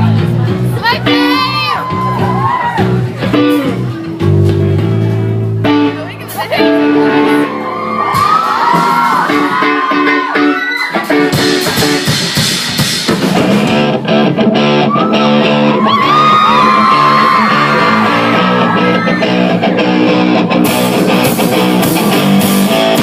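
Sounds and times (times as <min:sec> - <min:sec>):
live pop-rock band playing: 0:00.0 - 0:23.0.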